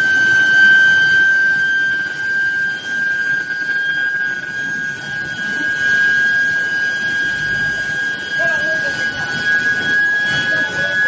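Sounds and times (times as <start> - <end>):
high-pitched induction coil whine: 0.0 - 11.0.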